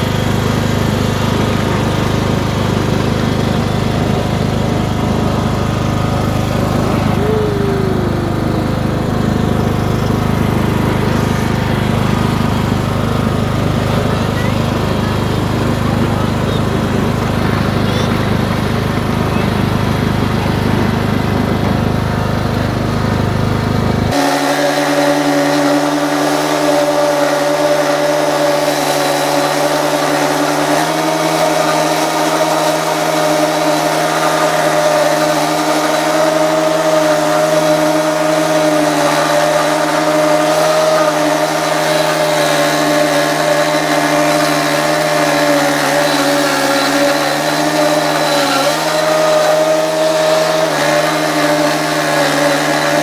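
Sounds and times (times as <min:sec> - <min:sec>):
riding mower engine running: 0:00.0 - 0:53.0.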